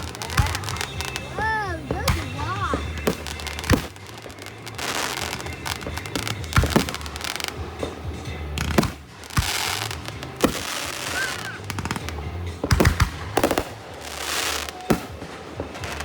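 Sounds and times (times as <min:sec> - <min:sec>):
fireworks bangs: 0:00.0 - 0:16.0
fireworks crackling hiss: 0:00.0 - 0:16.0.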